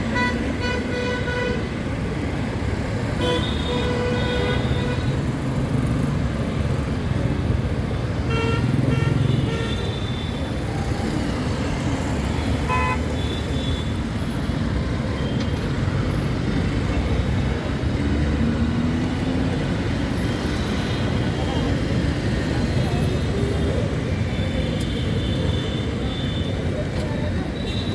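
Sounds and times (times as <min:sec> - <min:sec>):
road traffic rumble: 0:00.0 - 0:27.9.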